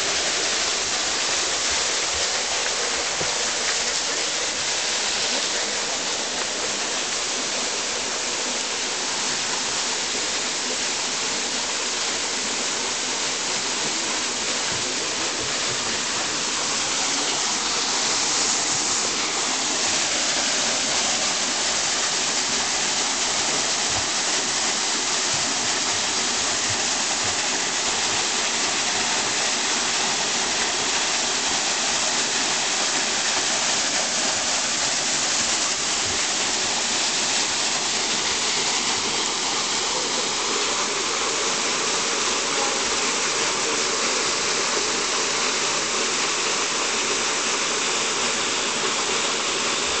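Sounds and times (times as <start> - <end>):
waterfall pouring into pool: 0.0 - 50.0.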